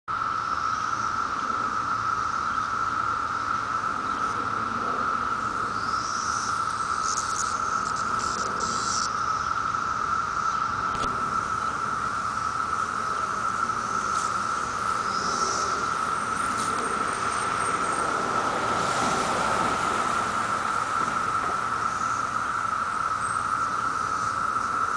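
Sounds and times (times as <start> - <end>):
cicadas buzzing: 0.1 - 24.9.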